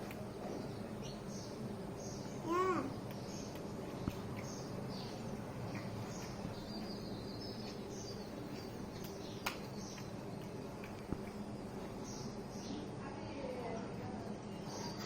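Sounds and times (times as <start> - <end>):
sparrows chirping: 0.0 - 15.0
steady low hum: 0.0 - 15.0.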